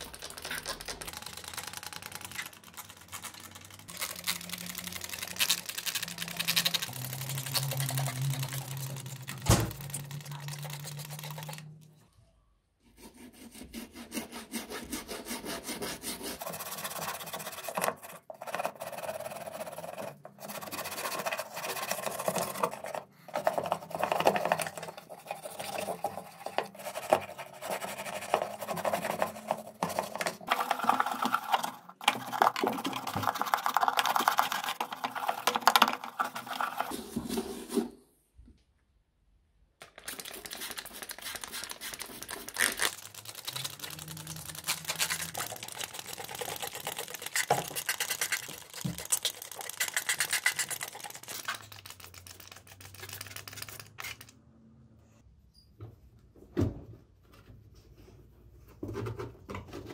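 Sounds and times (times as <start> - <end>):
toothbrush scrubbing plastic: 0.0 - 11.9, 13.0 - 37.8, 39.9 - 54.4.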